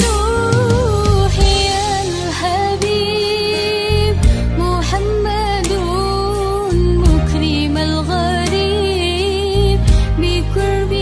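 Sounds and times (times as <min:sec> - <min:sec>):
devotional melody gliding: 0:00.0 - 0:11.0
low bass accompaniment: 0:00.0 - 0:11.0.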